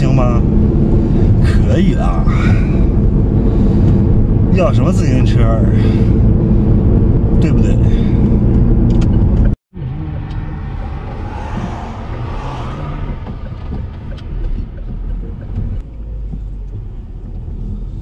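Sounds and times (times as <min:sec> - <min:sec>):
car engine hum: 0:00.0 - 0:18.0.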